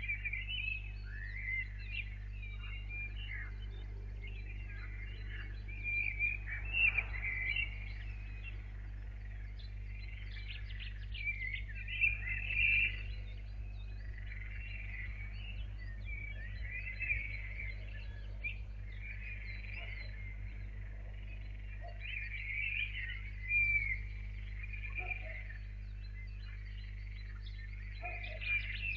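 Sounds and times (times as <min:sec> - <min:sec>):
birds singing: 0:00.0 - 0:28.9
low electrical hum: 0:00.0 - 0:28.9.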